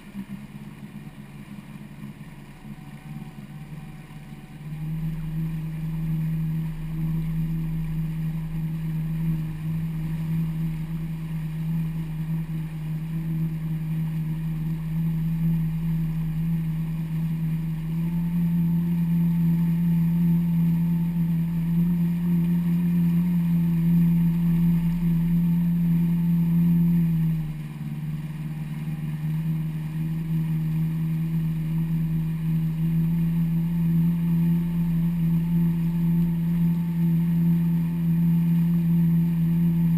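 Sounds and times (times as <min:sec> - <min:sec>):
personal watercraft engine running: 0:00.0 - 0:39.9.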